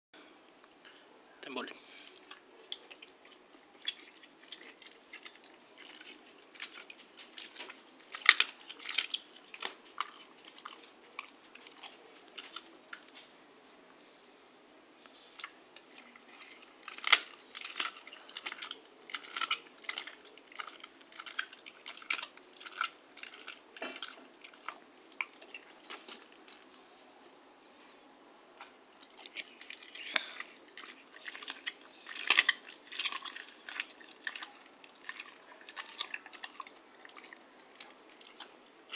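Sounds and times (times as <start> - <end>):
dog crunching bones: 2.1 - 13.3, 15.3 - 26.8, 29.0 - 38.9.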